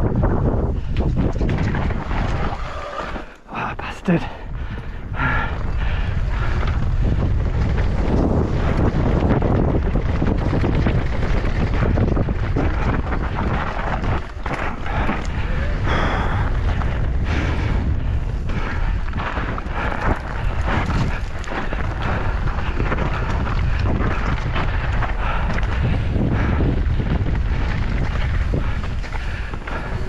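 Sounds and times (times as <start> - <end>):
bike rattling and knocking: 0.0 - 3.3, 4.6 - 30.0
wind rushing over microphone: 0.0 - 30.0.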